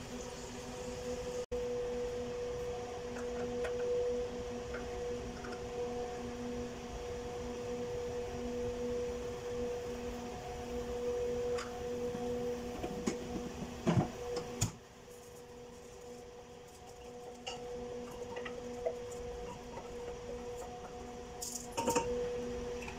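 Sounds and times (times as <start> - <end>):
steady hum: 0.0 - 22.9.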